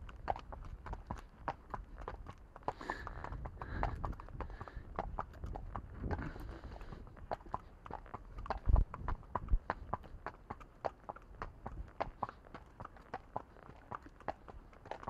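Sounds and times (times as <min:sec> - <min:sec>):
horse hooves on tarmac: 0:00.0 - 0:15.0.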